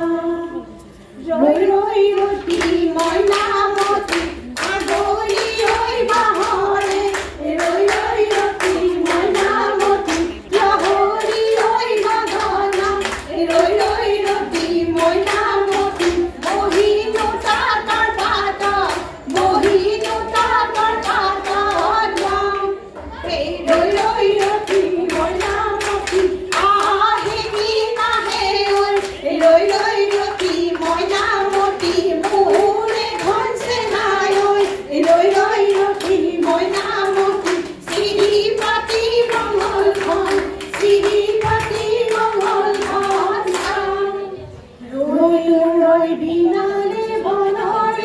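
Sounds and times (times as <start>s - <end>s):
women singing in unison: 0.0s - 48.0s
hand claps: 2.2s - 22.4s, 23.7s - 43.9s.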